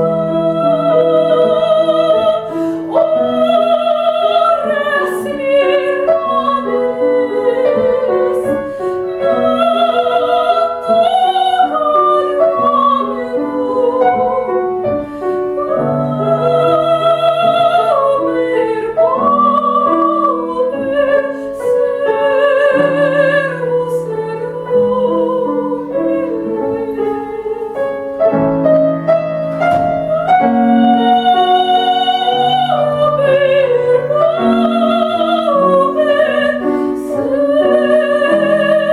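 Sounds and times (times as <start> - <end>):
woman singing operatic style: 0.0 - 28.2, 29.9 - 38.9
grand piano: 0.0 - 38.9.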